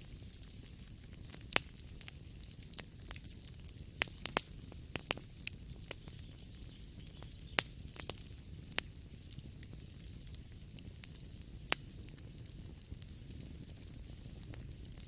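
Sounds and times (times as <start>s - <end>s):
fire popping and snapping: 0.0s - 15.0s
low rumble of burning: 0.0s - 15.0s
wood fire crackling: 0.0s - 15.0s.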